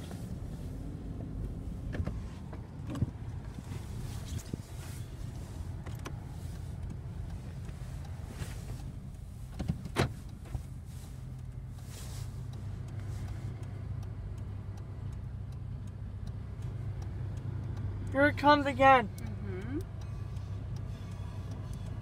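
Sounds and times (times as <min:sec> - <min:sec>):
car engine and road hum: 0:00.0 - 0:22.0
faint ticking: 0:00.0 - 0:22.0.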